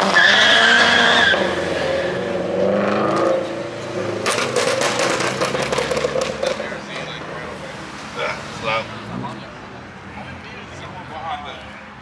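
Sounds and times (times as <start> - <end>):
car engine revving: 0.0 - 10.3
car tyres squealing: 0.0 - 10.3.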